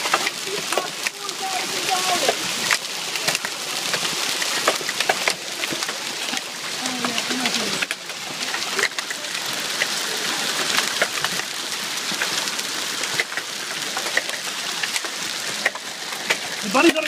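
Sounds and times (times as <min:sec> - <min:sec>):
hail falling: 0:00.0 - 0:17.0
hailstones ticking on surfaces: 0:00.0 - 0:17.0.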